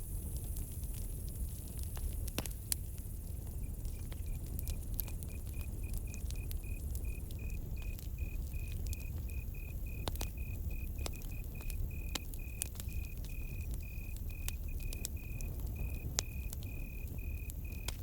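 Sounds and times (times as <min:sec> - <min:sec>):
campfire crackling: 0:00.0 - 0:18.0
cricket chirping: 0:00.0 - 0:18.0.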